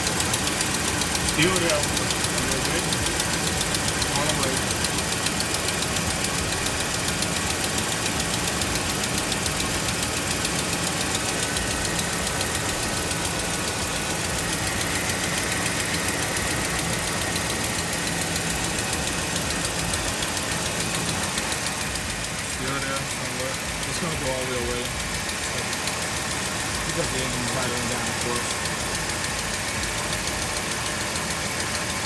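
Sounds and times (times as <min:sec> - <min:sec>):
car engine idling: 0:00.0 - 0:32.0
fast regular ticking: 0:00.0 - 0:32.0.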